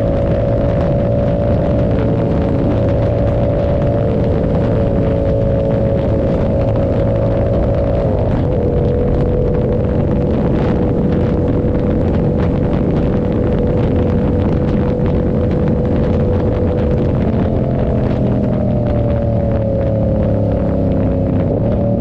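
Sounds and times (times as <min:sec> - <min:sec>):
motorcycle engine cruising: 0:00.0 - 0:22.0
wind rush: 0:00.0 - 0:22.0.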